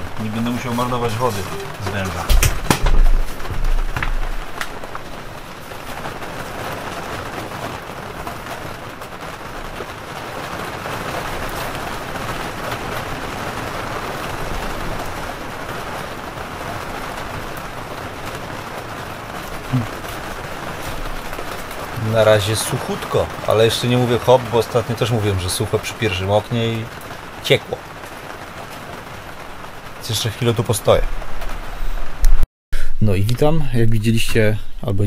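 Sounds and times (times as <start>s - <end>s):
rain falling on vehicle roof: 0.0s - 32.3s.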